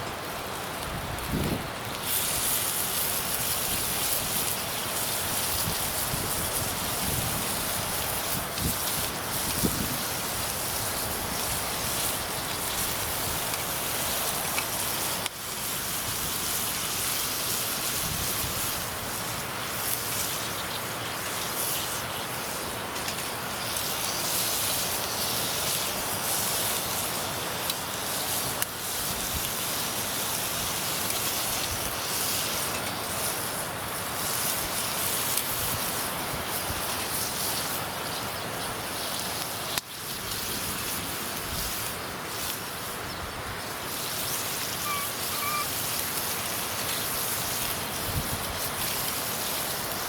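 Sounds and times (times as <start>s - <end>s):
fire crackles: 0.0s - 50.0s
meat sizzling in fat: 0.0s - 50.0s.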